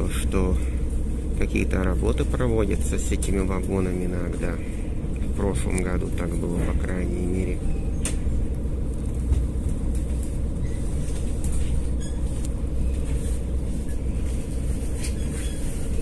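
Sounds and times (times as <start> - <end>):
faint steady hum: 0.0 - 16.0
train rumbling: 0.0 - 16.0.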